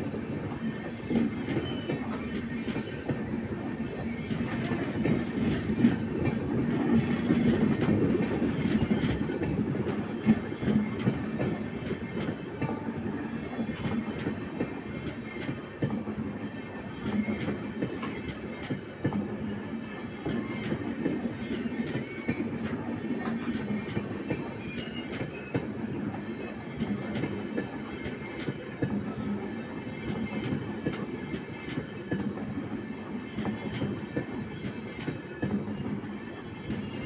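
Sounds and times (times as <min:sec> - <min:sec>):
train clicks and clatter: 0:00.0 - 0:37.0
train wheels rumbling on rails: 0:00.0 - 0:37.0.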